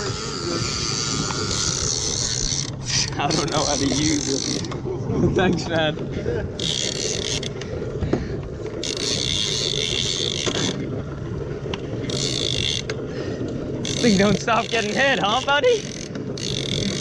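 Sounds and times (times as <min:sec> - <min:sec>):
fishing reel whirring: 0:00.0 - 0:04.8, 0:06.4 - 0:17.0.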